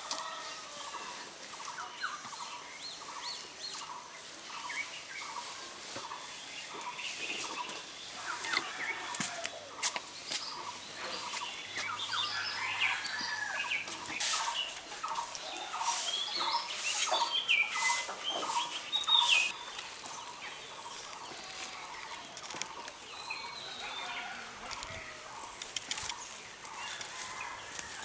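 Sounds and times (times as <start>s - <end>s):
birds chirping and calling: 0.0s - 28.0s.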